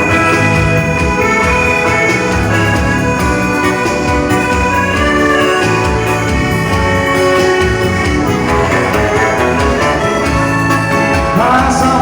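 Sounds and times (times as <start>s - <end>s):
dance band instrumental: 0.0s - 12.0s.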